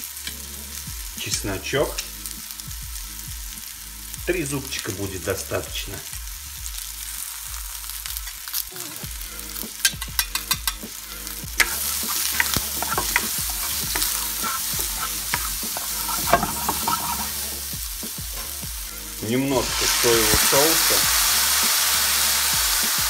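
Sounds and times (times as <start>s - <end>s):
mushrooms sizzling in butter: 0.0s - 23.0s.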